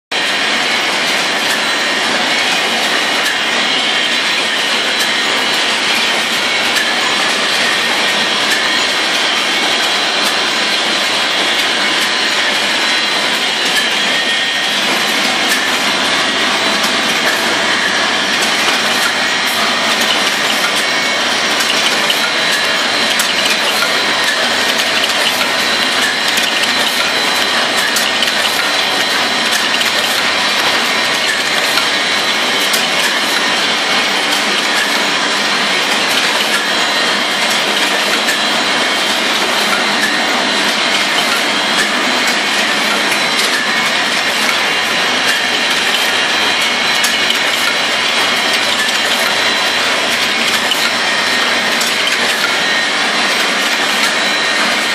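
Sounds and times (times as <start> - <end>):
wire forming machine clattering: 0.2 - 54.9.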